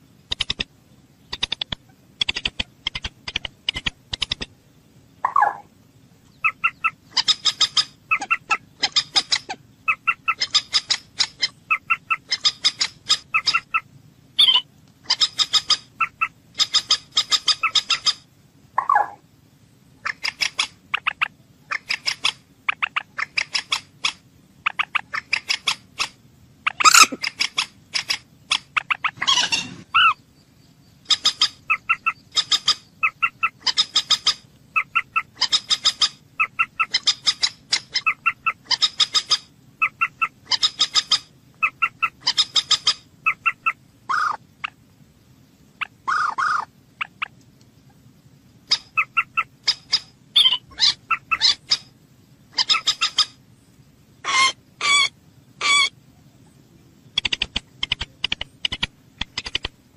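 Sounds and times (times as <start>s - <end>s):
moorhen calling: 5.2s - 19.2s, 20.0s - 44.8s, 45.8s - 48.0s, 48.6s - 53.4s, 54.2s - 59.7s.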